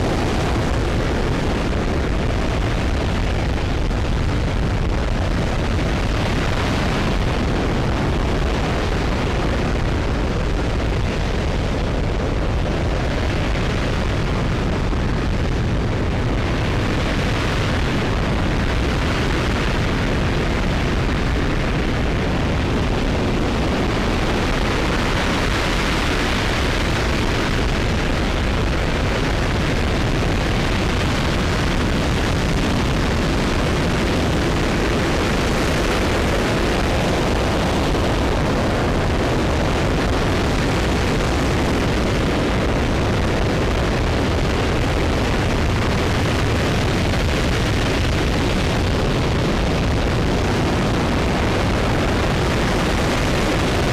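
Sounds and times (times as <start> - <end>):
rocket engine roaring: 0.0 - 53.9.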